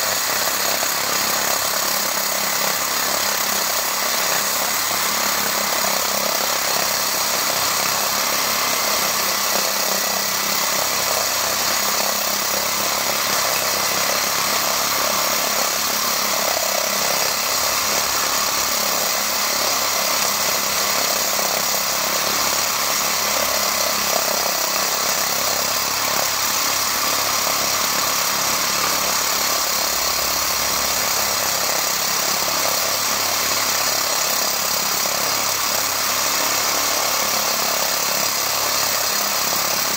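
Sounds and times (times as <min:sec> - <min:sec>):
core drill grinding into concrete: 0:00.0 - 0:39.9.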